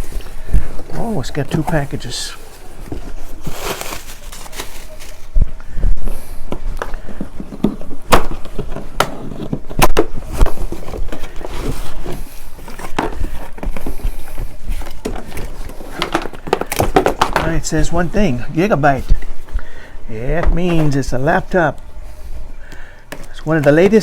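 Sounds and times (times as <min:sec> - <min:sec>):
packaging rustling: 0:00.0 - 0:20.0.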